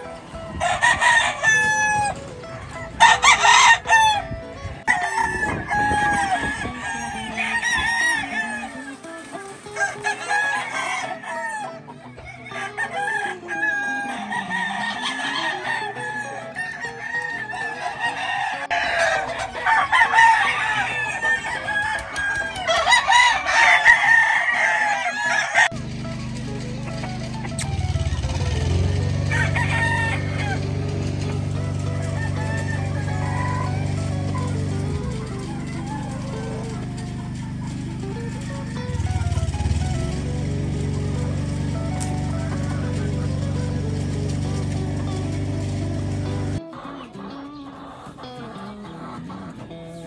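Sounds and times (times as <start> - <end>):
roosters crowing: 0.0 - 50.0.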